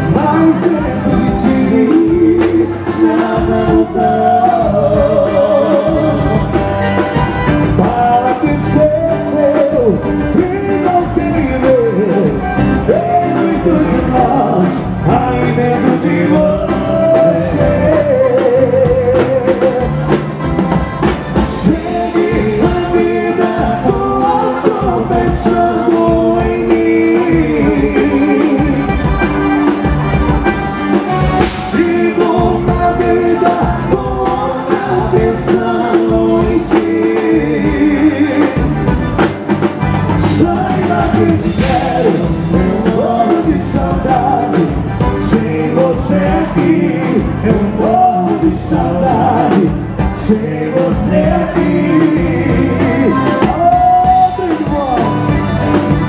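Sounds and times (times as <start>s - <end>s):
man singing into a microphone: 0.0s - 6.6s, 7.4s - 20.3s, 21.3s - 29.5s, 31.4s - 39.0s, 40.2s - 55.6s
accordion: 0.0s - 56.0s
drum kit beat: 0.0s - 56.0s
electric bass guitar: 0.0s - 56.0s.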